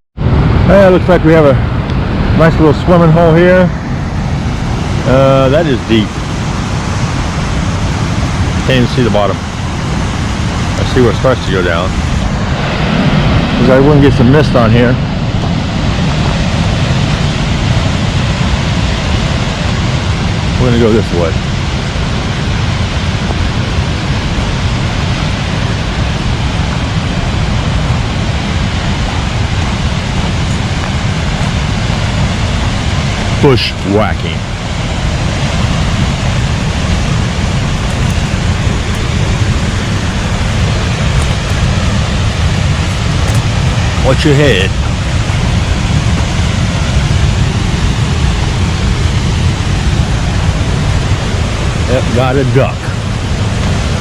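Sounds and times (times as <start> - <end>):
waterfall rushing: 0.2 - 54.0.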